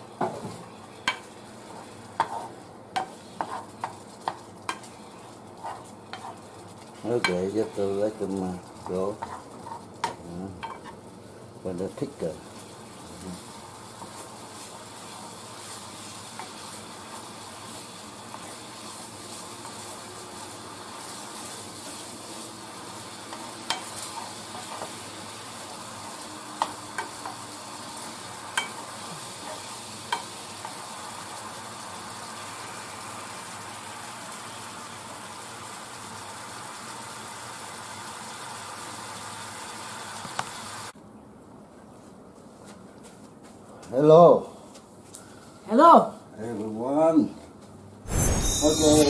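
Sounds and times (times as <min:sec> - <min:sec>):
glaze sizzling and bubbling in pan: 0:00.0 - 0:41.0.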